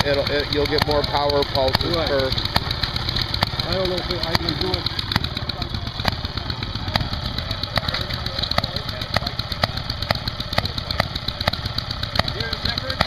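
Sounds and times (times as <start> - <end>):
two-stroke engine firing pops: 0.0 - 13.0.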